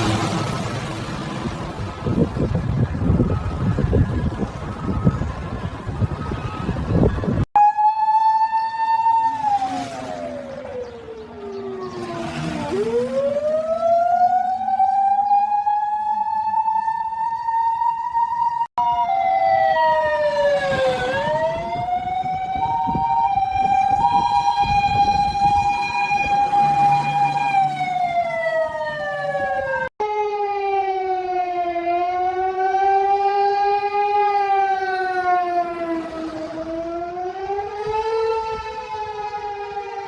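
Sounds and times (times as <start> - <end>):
fire engine siren wailing: 0.0 - 40.0.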